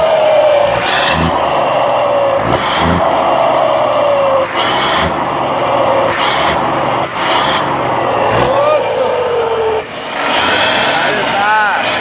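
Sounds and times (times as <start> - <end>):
diesel engine turbo whine: 0.0 - 12.0.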